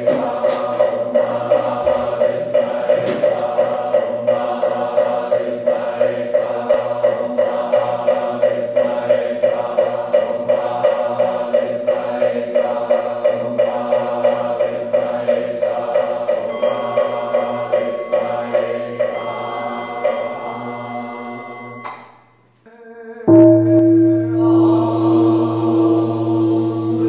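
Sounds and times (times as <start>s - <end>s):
voices chanting in unison: 0.0s - 21.8s, 22.6s - 27.0s.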